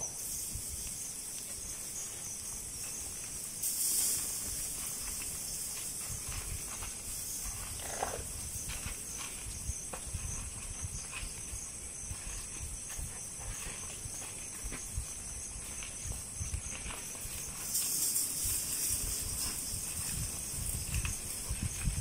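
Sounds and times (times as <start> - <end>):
high-pitched insect drone: 0.0 - 22.0
soft low thuds of elephants moving: 0.1 - 22.0.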